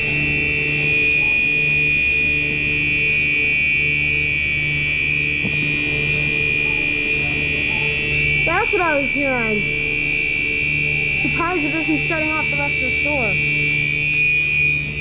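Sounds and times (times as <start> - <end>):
fire alarm horn: 0.0 - 15.0.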